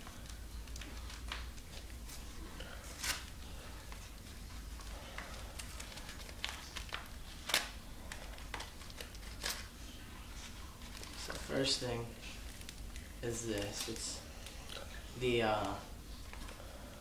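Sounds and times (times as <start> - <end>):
packaging crinkling and tearing: 0.0 - 16.6.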